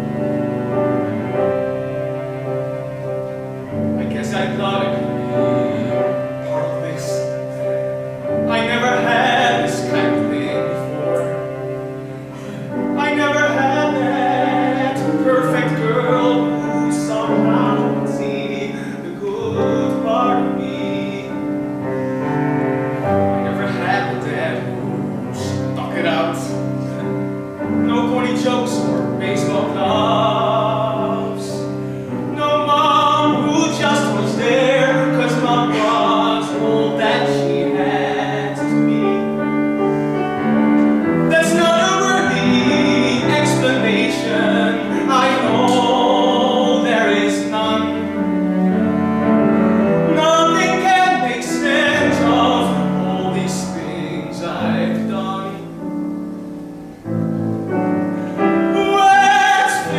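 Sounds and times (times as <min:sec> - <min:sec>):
cello: 0:00.0 - 0:59.9
piano: 0:00.0 - 0:59.9
person singing with vibrato: 0:03.8 - 0:22.4, 0:23.1 - 0:56.5, 0:58.1 - 0:59.9.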